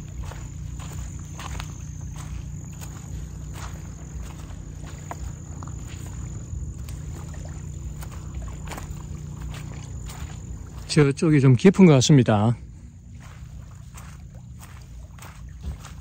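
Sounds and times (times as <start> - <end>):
insects trilling: 0.0 - 16.0
small waves lapping on shore: 0.0 - 16.0.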